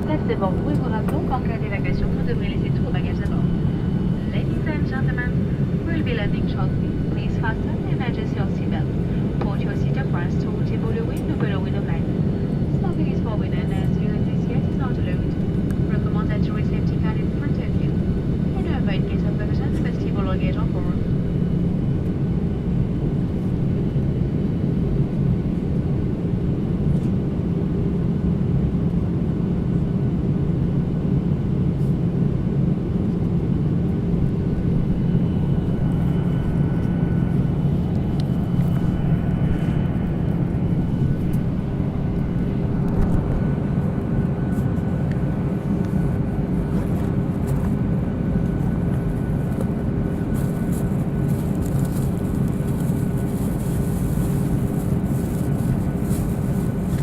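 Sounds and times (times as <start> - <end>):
low hum: 0.0 - 24.5, 32.2 - 57.0
jet engines rumbling: 0.0 - 57.0.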